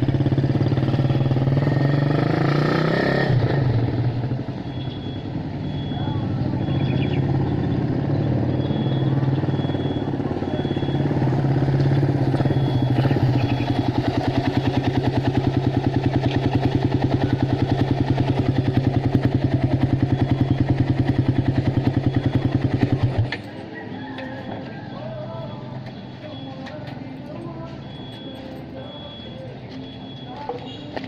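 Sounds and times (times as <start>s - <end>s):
small motorcycle engine idling: 0.0s - 31.0s.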